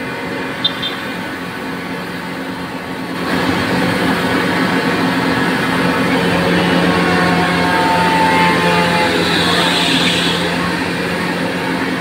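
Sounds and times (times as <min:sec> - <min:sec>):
pump motor hum: 0:00.0 - 0:12.0.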